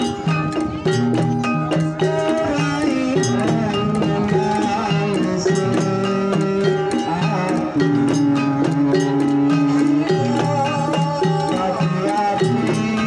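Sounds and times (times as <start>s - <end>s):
gliding melodic line: 0.0s - 13.0s
wooden xylophones struck with mallets: 0.0s - 13.0s.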